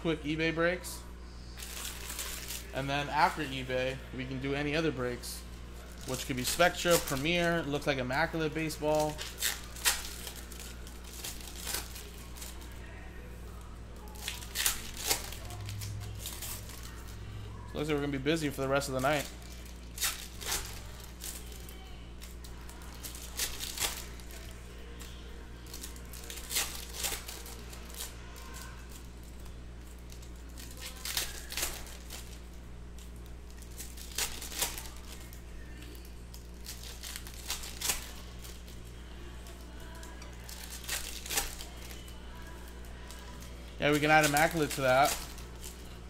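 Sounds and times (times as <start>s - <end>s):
steady low hum: 0.0s - 46.0s
foil wrappers crinkling: 1.4s - 46.0s.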